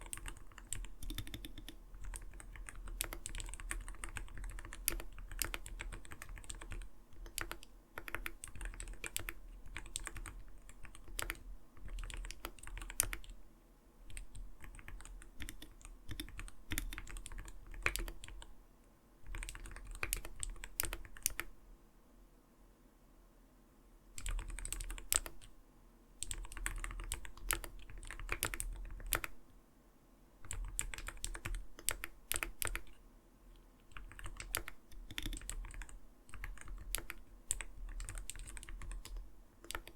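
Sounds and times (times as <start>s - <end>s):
mechanical keyboard typing: 0.0s - 13.4s, 14.1s - 18.5s, 19.2s - 21.5s, 24.2s - 25.5s, 26.2s - 29.4s, 30.4s - 33.0s, 33.8s - 39.9s.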